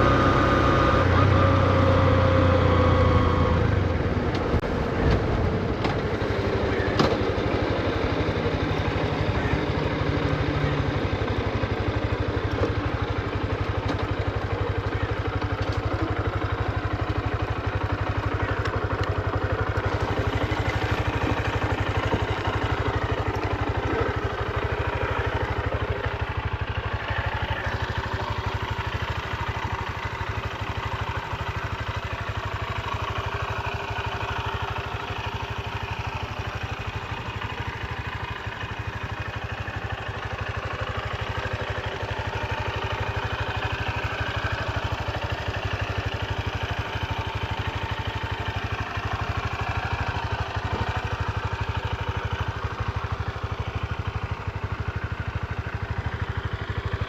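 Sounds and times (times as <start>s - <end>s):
motorcycle engine running at low revs: 0.0s - 57.0s.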